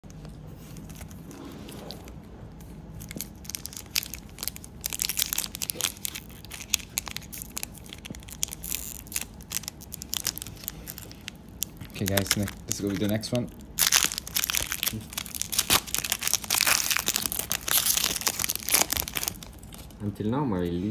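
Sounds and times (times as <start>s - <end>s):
card pack wrapper tearing and crinkling: 3.0s - 20.0s.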